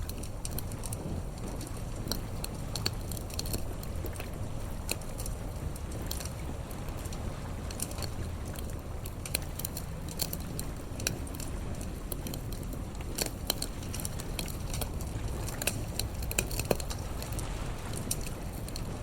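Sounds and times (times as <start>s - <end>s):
fire pops and snaps: 0.0s - 19.0s
steady low rumble: 0.0s - 19.0s
wood fire crackling: 0.0s - 19.0s.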